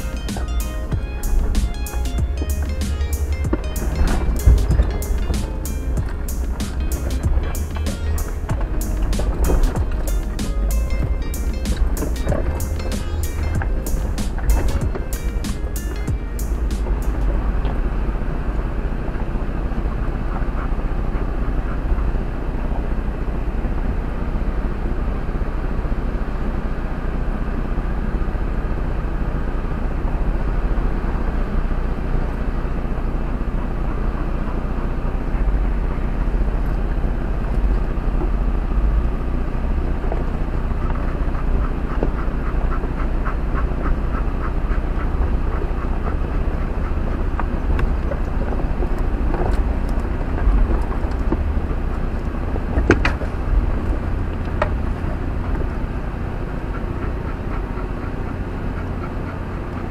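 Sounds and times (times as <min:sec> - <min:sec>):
engine running low inside cab: 0:00.0 - 0:59.9.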